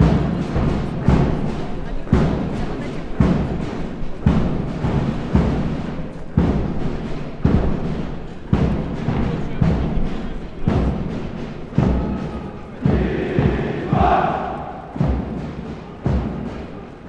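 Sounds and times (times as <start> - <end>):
marching drum beating: 0.0 - 17.0.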